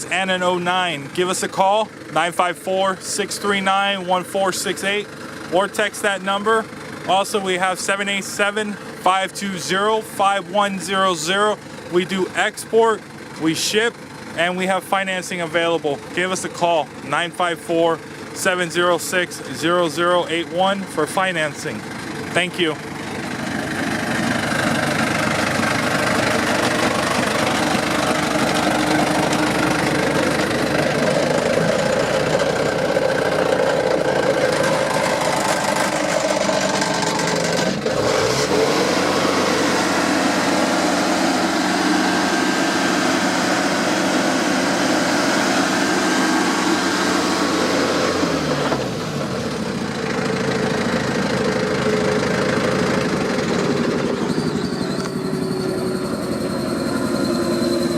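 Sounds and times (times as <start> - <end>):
wood chipper diesel engine running: 0.0 - 57.9.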